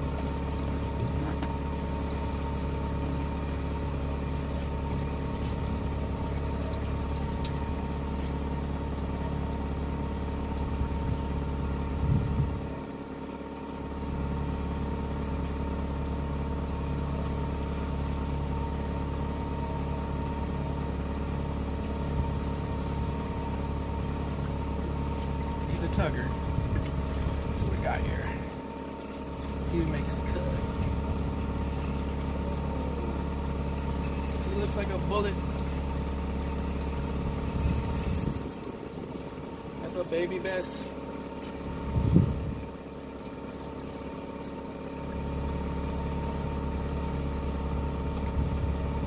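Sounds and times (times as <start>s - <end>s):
boat motor humming: 0.0s - 49.0s.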